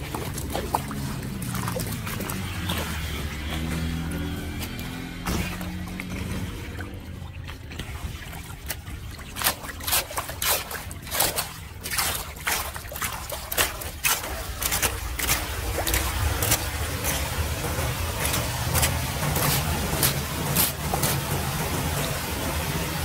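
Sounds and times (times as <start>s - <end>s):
low rush of water: 0.0s - 23.0s
water splashing and sloshing: 0.0s - 23.0s.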